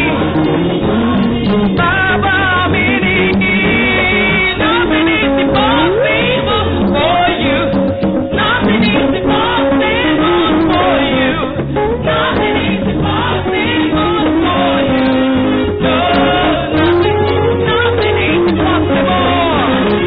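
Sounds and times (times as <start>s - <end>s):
gospel choir singing: 0.0s - 20.0s
instrumental backing: 0.0s - 20.0s.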